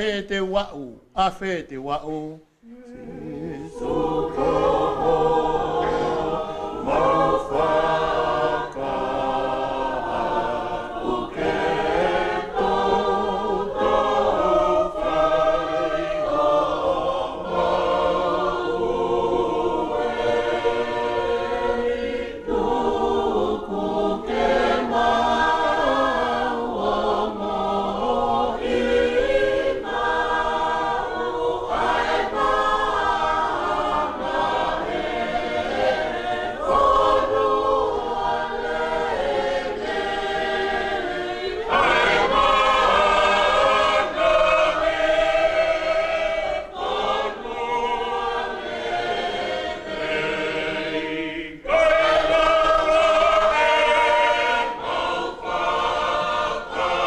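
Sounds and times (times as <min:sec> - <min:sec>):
congregation singing a hymn: 0:01.2 - 0:57.0.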